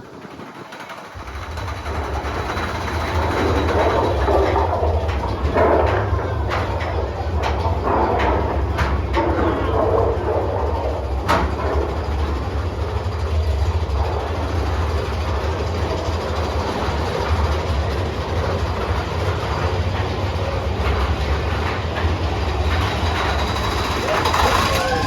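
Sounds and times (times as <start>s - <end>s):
roller coaster rumbling and rattling: 0.0s - 25.0s.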